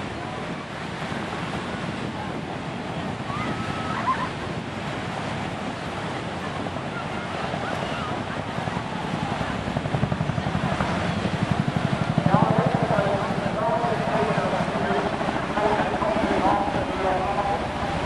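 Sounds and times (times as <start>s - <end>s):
distant helicopter rotor wash: 0.0s - 18.0s
wind on microphone: 0.0s - 18.0s.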